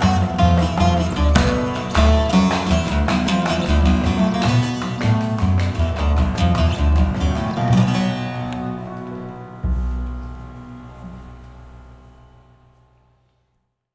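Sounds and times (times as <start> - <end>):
oud plucked notes: 0.0 - 13.2
low bass line: 0.0 - 13.3.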